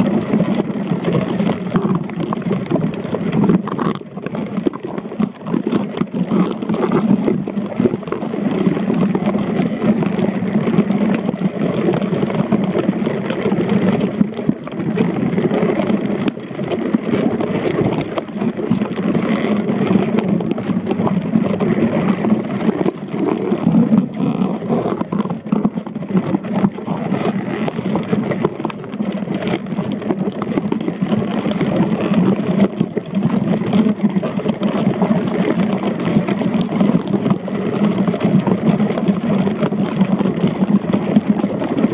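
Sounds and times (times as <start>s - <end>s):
small clicks and scrapes: 0.0s - 41.9s
underwater rumble: 0.0s - 41.9s.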